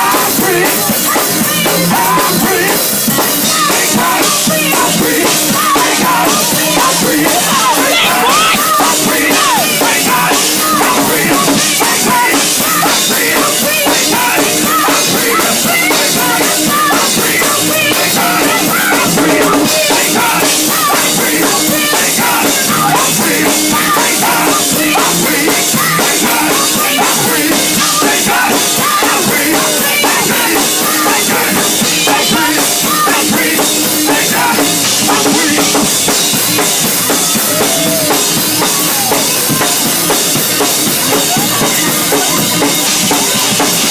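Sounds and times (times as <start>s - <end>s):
drum kit beat: 0.0s - 43.9s
vocal group singing: 0.0s - 43.9s.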